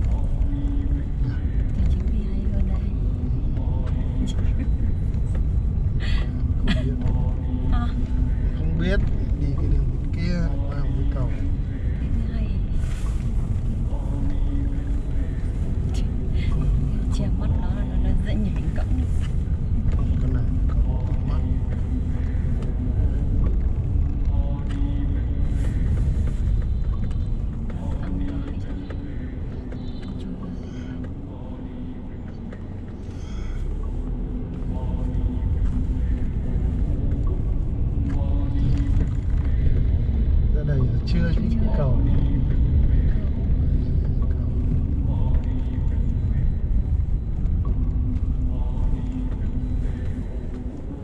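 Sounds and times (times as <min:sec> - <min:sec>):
car engine rumble from inside cabin: 0:00.0 - 0:51.0.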